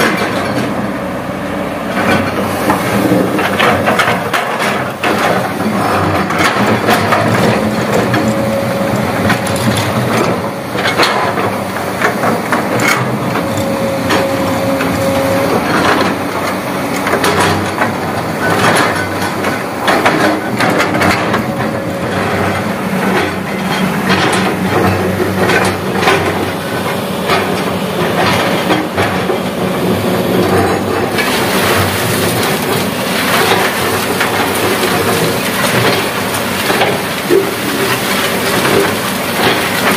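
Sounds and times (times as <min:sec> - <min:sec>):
hydraulic whine: 0:00.0 - 0:35.1
diesel engine under load: 0:00.0 - 0:39.9
soil and gravel pouring: 0:02.0 - 0:39.9
gravel clattering down: 0:02.7 - 0:39.9.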